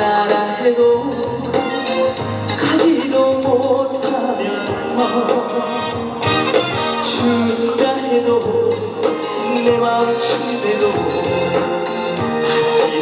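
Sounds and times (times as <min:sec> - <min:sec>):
trot music over loudspeaker: 0:00.0 - 0:13.0.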